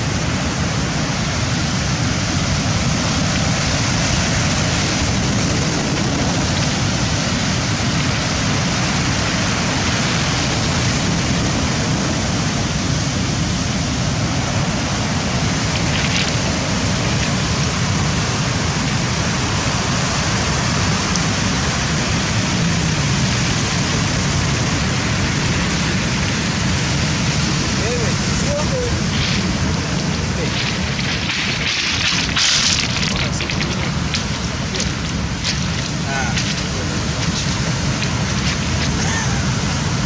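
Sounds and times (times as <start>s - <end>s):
sea surf breaking on shore: 0.0s - 40.0s.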